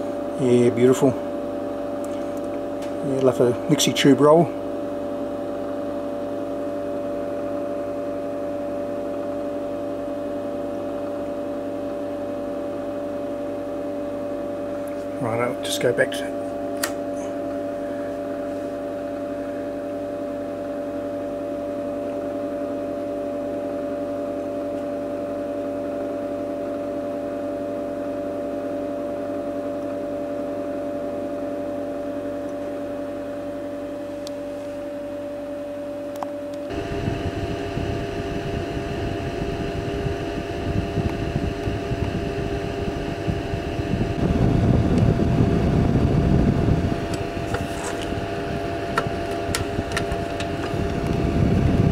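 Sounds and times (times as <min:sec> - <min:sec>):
cooling fan hum: 0:00.0 - 0:51.9.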